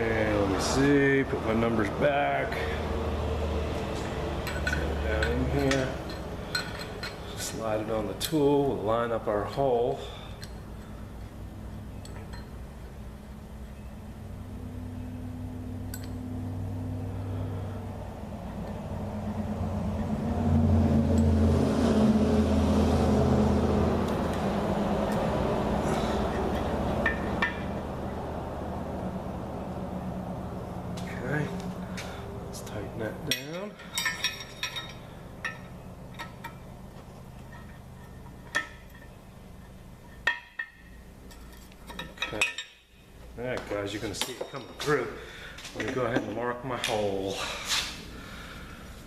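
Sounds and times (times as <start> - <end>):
vehicle engine humming: 0.0 - 49.0.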